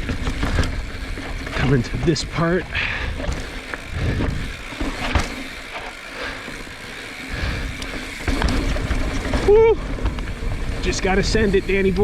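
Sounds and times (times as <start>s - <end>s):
bike rattling: 0.0s - 12.0s
tyre and wind noise: 0.0s - 12.0s.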